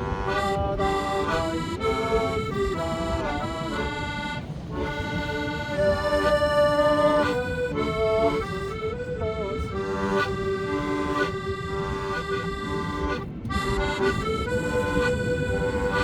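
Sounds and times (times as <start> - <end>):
accordion melody: 0.0 - 16.0.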